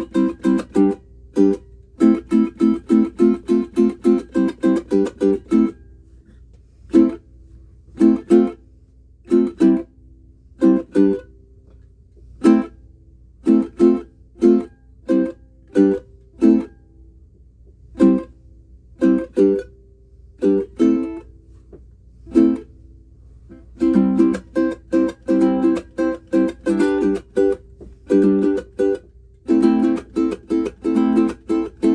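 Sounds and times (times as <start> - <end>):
ukulele chord strums: 0.0 - 12.8, 13.4 - 17.1, 17.8 - 31.9.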